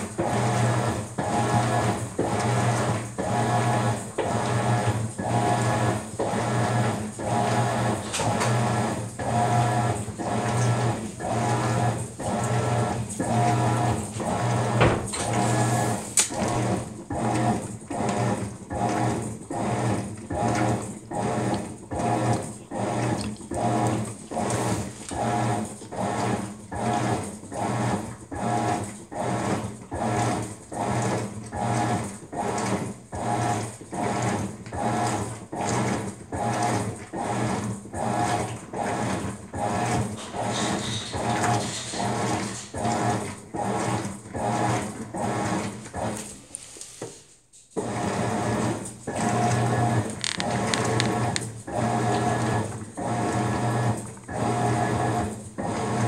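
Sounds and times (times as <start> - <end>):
washing machine motor humming: 0.0 - 47.0, 47.8 - 56.0
water swishing in washing machine: 0.0 - 56.0.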